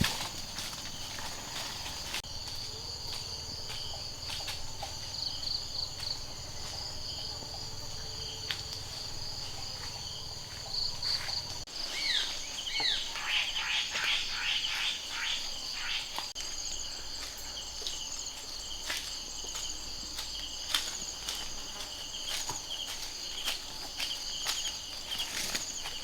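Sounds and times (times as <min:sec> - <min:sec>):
insects buzzing chorus: 0:00.0 - 0:26.0.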